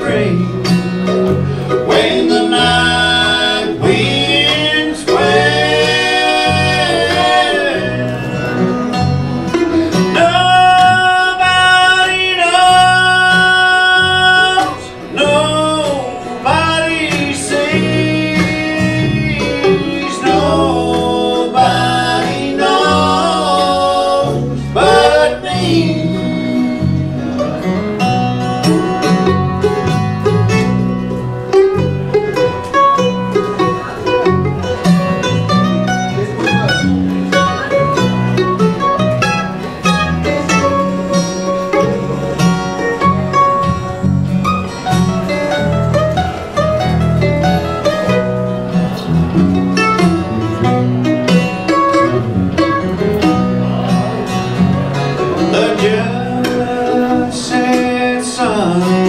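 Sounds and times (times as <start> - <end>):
banjo plucking: 0.0 - 59.0
guitar plucking: 0.0 - 59.0
sliding lead melody: 0.0 - 59.0.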